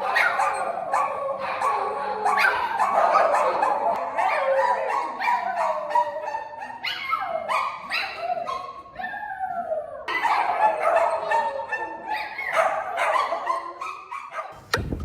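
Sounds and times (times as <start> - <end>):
dog barking and howling: 0.0 - 14.6.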